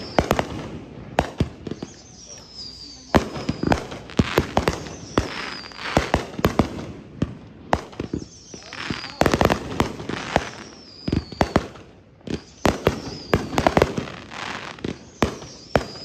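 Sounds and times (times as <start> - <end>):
high falling firework whistles: 0.0 - 6.7, 7.7 - 16.0
firework bangs with crackle: 0.0 - 16.0.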